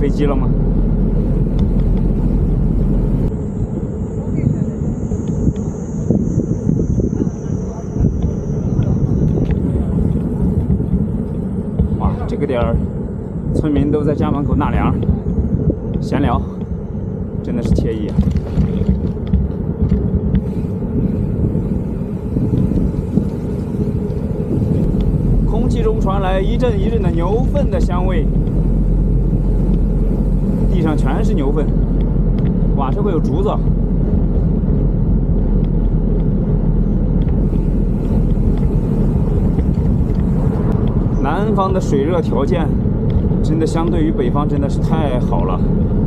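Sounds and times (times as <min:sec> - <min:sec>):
road noise: 0:00.0 - 0:46.0
wind buffeting microphone: 0:00.0 - 0:46.0.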